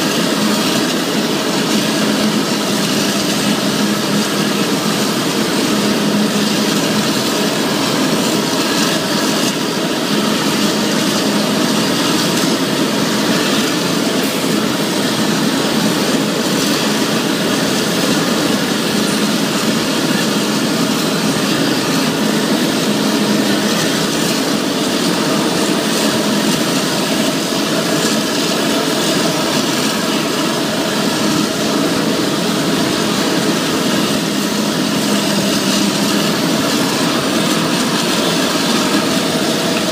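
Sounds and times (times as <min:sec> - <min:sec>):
forage harvester chopping corn: 0:00.0 - 0:39.9.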